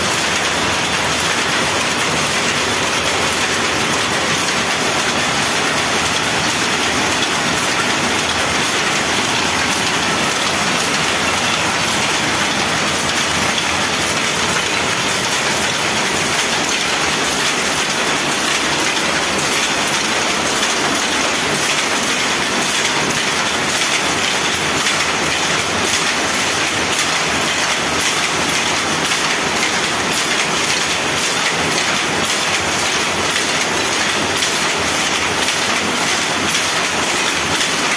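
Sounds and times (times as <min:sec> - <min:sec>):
power looms clattering: 0:00.0 - 0:37.9.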